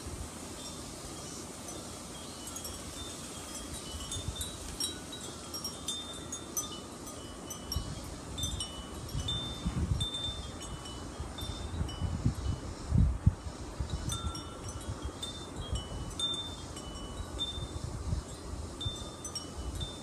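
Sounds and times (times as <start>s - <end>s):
wind chimes ringing: 0.6s - 12.6s, 13.9s - 20.0s
wind rumbling on microphone: 2.6s - 20.0s.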